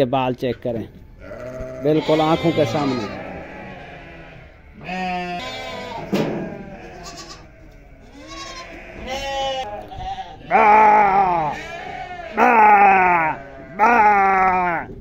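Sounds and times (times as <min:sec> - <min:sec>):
goats and sheep bleating: 0:01.2 - 0:15.0.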